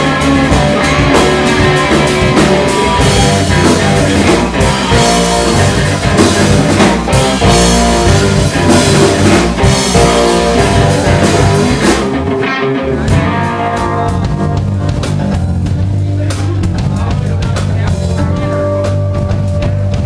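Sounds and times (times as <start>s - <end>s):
bass guitar: 0.0s - 20.0s
drum kit: 0.0s - 20.0s
electric guitar: 0.0s - 20.0s.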